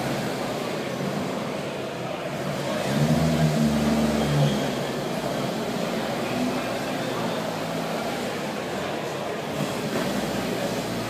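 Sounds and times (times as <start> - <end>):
busy hall background noise: 0.0 - 11.0
rally car engine: 0.0 - 11.0.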